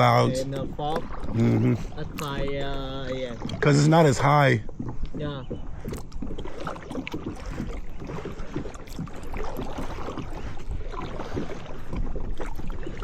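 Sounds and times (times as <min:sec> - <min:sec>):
water splashing from paddling: 0:00.0 - 0:13.0
wind on microphone: 0:00.0 - 0:13.0.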